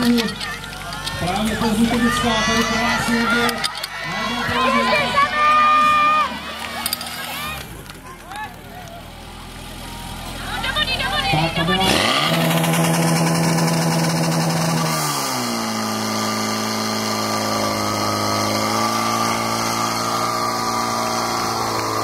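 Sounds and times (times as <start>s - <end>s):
fire pump engine running: 0.0s - 22.0s.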